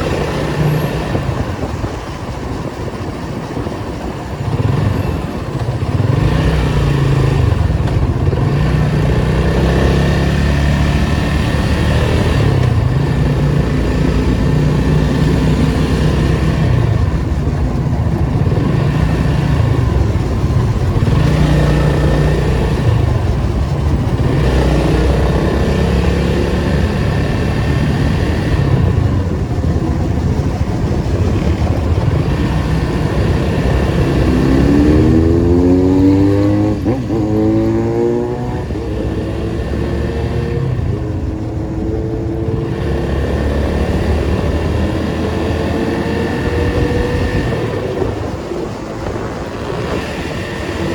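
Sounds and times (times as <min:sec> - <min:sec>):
car engine revving: 0:05.6 - 0:50.9.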